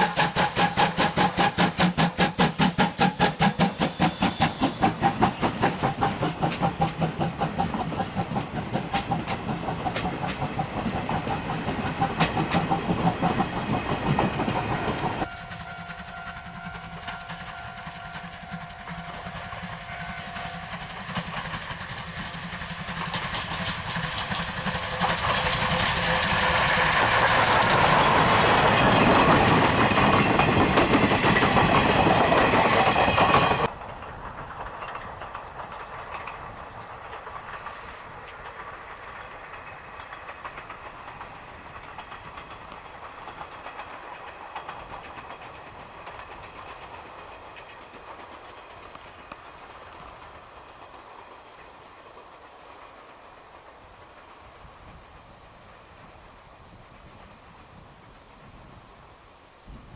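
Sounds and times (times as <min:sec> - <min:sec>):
clickety-clack of rails: 0:00.0 - 0:58.8
steam train passing: 0:00.0 - 0:59.9.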